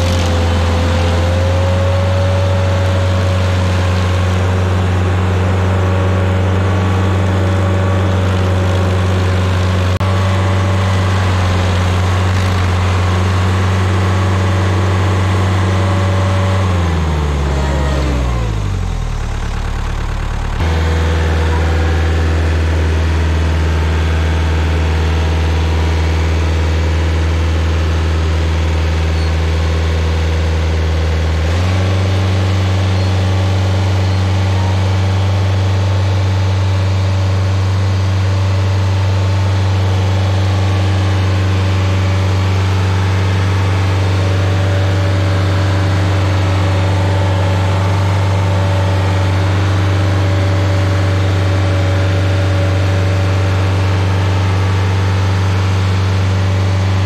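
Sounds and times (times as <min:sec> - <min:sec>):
stump grinder engine running: 0:00.0 - 0:57.0.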